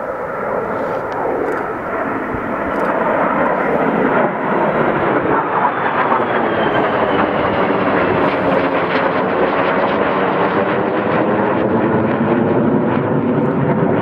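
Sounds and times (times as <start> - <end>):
jet fighters flying overhead: 0.0 - 14.0.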